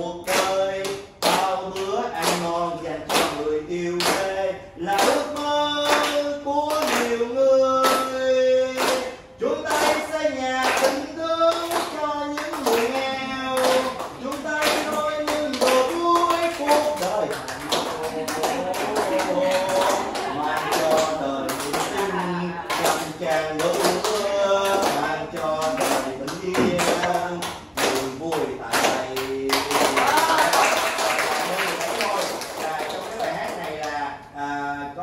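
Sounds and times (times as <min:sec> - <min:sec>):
group clapping to beat: 0:00.0 - 0:34.1.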